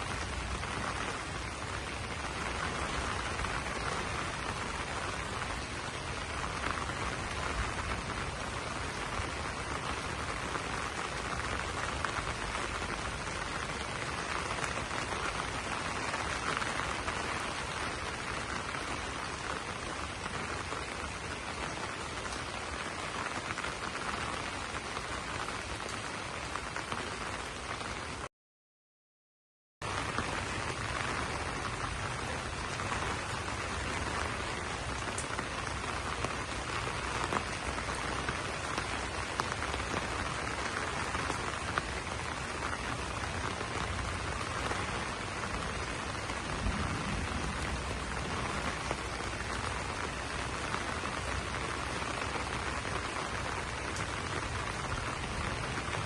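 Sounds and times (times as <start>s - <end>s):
rain pattering on leaves: 0.0s - 28.3s, 29.8s - 56.0s.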